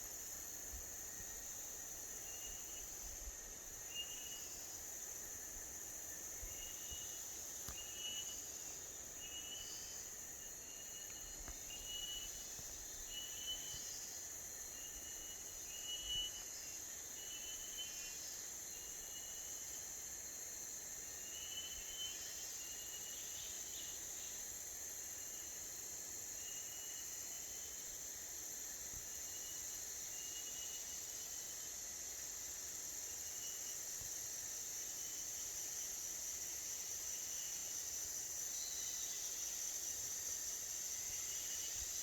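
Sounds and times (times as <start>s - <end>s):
high-pitched insect drone: 0.1s - 42.0s.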